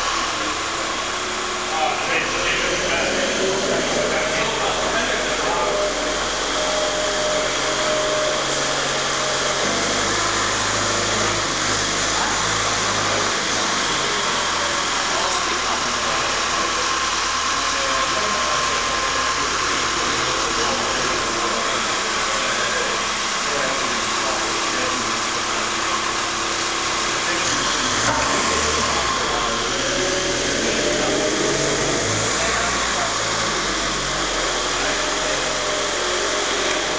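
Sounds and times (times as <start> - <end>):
forklift engine running: 0.0 - 36.9.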